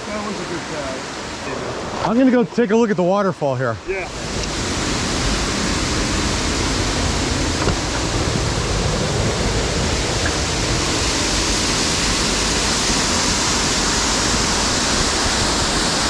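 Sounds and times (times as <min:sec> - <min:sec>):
stream cascading over rocks: 0:00.0 - 0:16.0.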